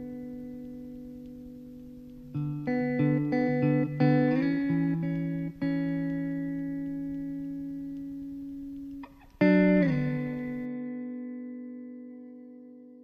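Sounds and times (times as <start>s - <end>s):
plucked guitar music: 0.0s - 13.0s.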